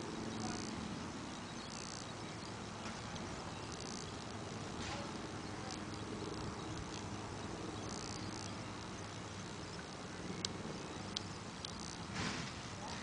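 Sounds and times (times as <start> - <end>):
sharp clicks: 0.3 - 12.6.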